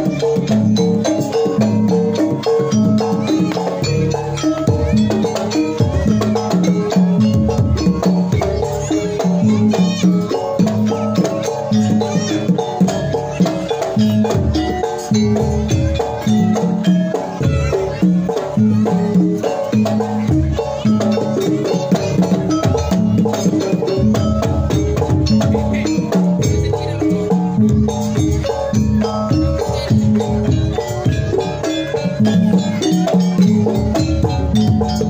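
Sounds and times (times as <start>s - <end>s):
drums: 0.0s - 35.0s
gamelan metallophones playing: 0.0s - 35.0s.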